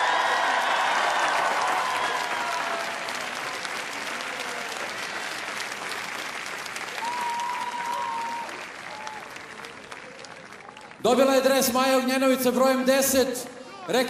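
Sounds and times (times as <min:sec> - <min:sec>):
crowd applauding: 0:00.0 - 0:11.6.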